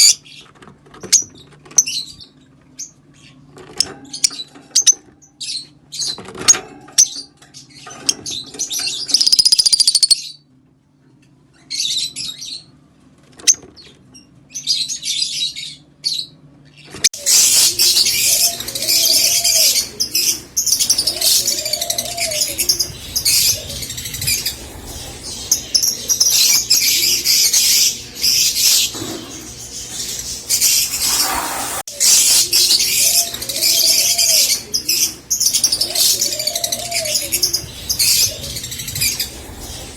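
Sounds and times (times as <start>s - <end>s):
parrots chirping and chattering: 0.0s - 10.2s, 17.1s - 39.9s.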